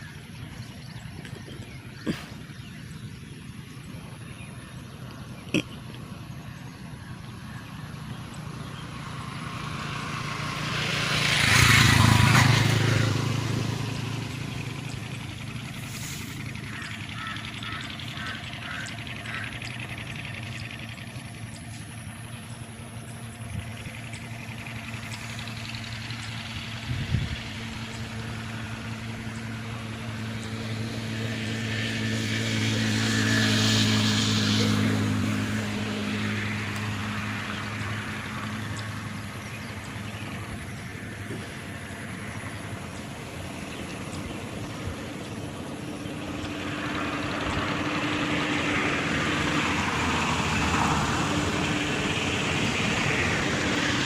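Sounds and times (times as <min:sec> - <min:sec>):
engine hum: 0:00.0 - 0:54.0
motor vehicle passing: 0:00.0 - 0:54.0.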